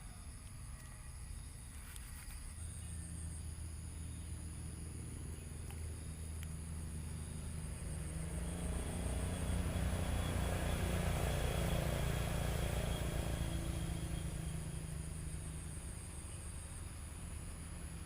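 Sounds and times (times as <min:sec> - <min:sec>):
vehicle passing by: 0:02.8 - 0:18.0.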